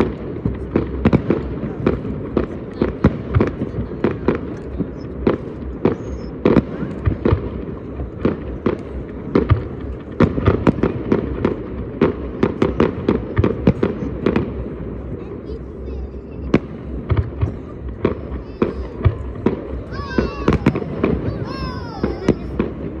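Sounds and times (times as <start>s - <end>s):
distant explosions rumble: 0.0s - 23.0s
fireworks bangs and pops: 0.0s - 23.0s.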